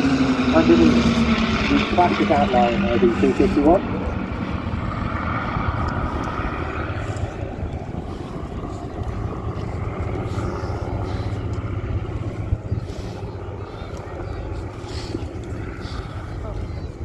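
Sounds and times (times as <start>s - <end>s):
propeller planes droning: 0.0s - 17.0s.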